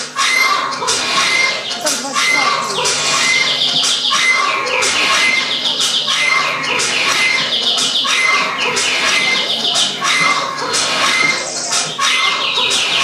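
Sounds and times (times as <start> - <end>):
bird-like chirping and clucking: 0.0 - 13.0.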